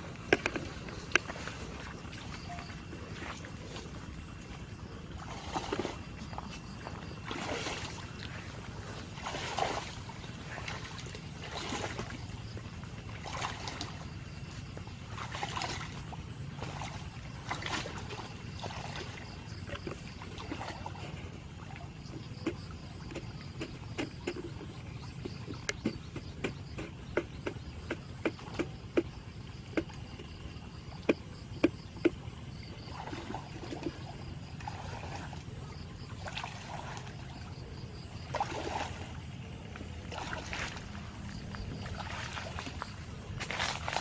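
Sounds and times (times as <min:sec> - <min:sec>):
water splashing: 0:00.0 - 0:44.0.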